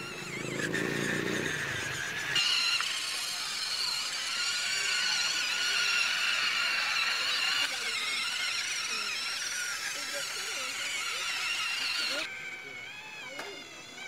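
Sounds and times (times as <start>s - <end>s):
electric gear motors whining: 0.0s - 14.0s.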